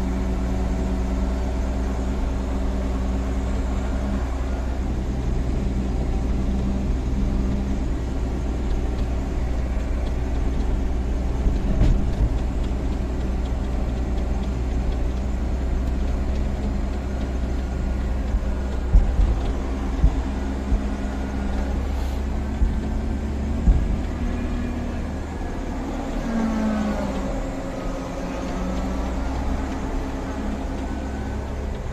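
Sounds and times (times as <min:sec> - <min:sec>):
heavy diesel engine running: 0:00.0 - 0:31.9.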